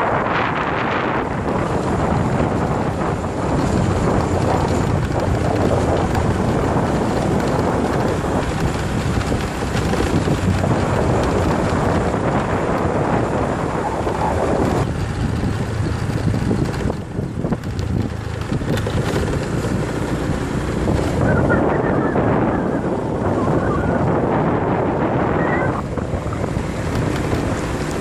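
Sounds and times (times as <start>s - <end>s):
scooter engine running: 0.0s - 28.0s
wind rushing over microphone: 0.0s - 28.0s.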